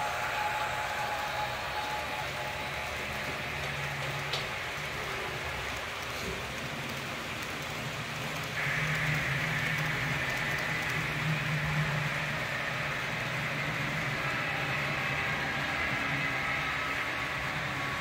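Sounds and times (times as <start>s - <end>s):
hiss of wheels on rails: 0.0s - 18.0s.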